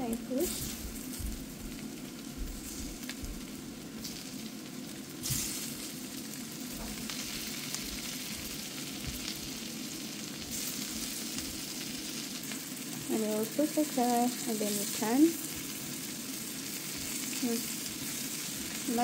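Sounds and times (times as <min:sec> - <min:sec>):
asparagus sizzling in butter: 0:00.0 - 0:19.0.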